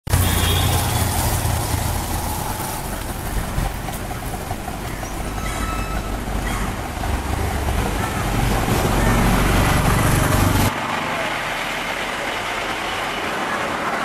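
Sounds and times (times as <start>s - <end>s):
vehicle engine rumble: 0.1s - 14.0s.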